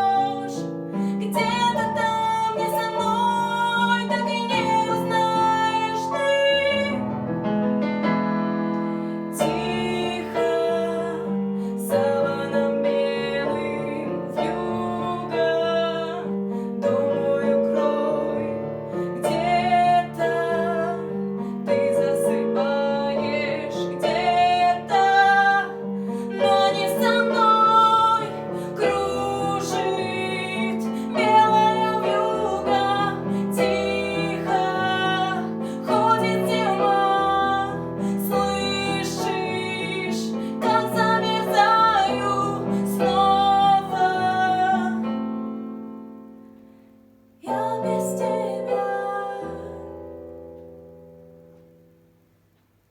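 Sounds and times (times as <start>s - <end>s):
woman singing: 0.0s - 7.2s, 8.8s - 45.2s, 47.4s - 50.0s
piano accompaniment: 0.0s - 52.9s.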